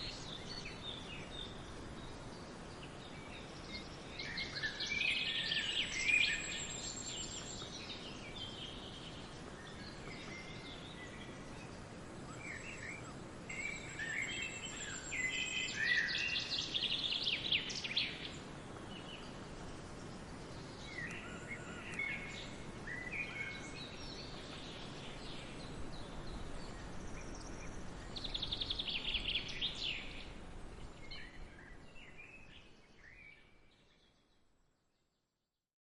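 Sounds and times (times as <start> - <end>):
outdoor background hiss: 0.0 - 35.4.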